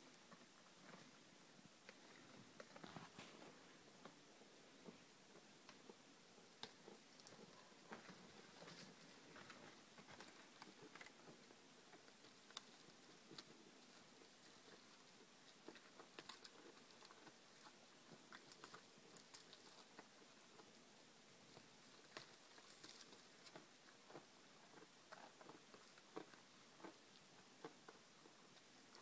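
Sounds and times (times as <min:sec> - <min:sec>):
animals chewing twigs: 0:00.0 - 0:29.0.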